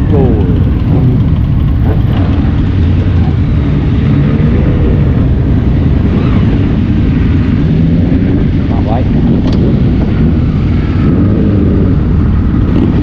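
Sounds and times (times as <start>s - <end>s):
motorcycle engine drone: 0.0s - 13.0s
wind rush on microphone: 0.0s - 13.0s.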